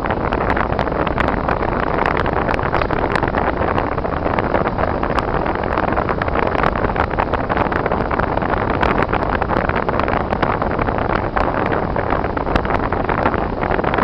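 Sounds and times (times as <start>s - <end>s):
road and tyre noise on snow: 0.0s - 14.0s.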